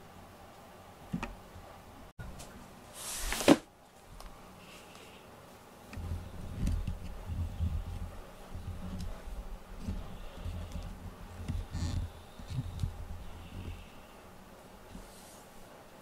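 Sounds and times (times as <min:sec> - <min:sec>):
rustling: 0:02.4 - 0:15.7.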